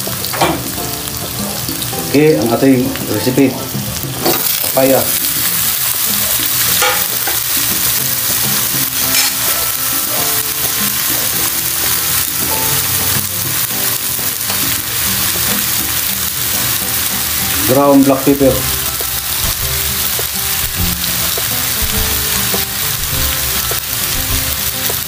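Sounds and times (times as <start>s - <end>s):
papaya sizzling in hot oil: 0.0s - 25.0s.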